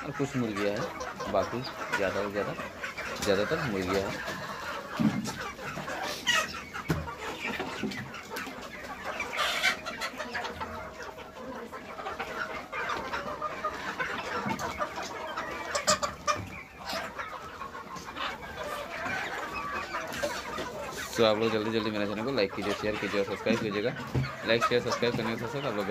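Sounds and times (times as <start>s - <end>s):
flock of chickens clucking: 0.0s - 25.9s.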